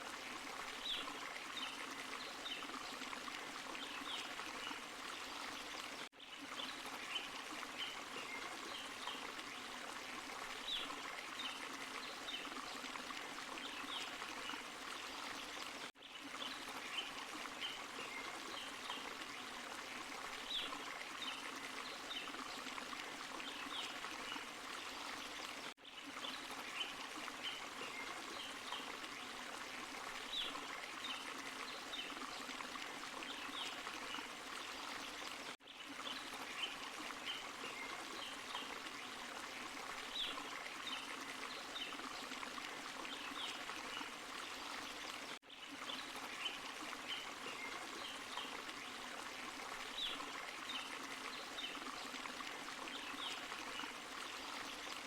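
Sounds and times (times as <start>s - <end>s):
stream and small waterfall running: 0.0s - 55.0s.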